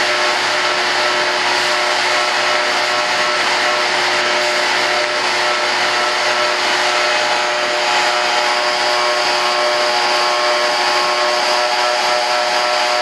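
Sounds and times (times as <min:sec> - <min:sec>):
shop vac running: 0:00.0 - 0:13.0.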